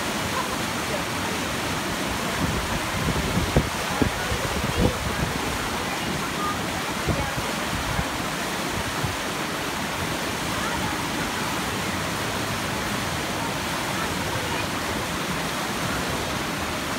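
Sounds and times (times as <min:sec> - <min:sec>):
water rushing over rocks: 0:00.0 - 0:16.9.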